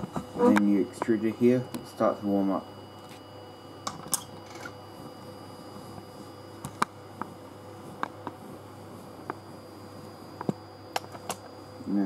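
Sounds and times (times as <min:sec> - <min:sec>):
cooling fan humming: 0:00.0 - 0:12.0.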